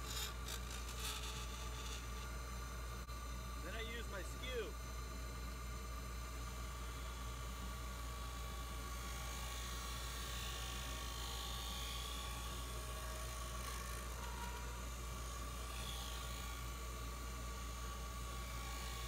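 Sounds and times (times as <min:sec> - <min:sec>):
lathe motor hum and whine: 0:00.0 - 0:19.0.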